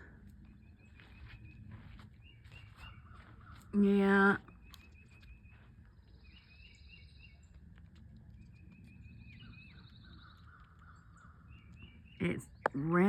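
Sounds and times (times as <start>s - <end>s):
faint birdsong: 0.0s - 13.0s
low outdoor hum: 0.0s - 13.0s.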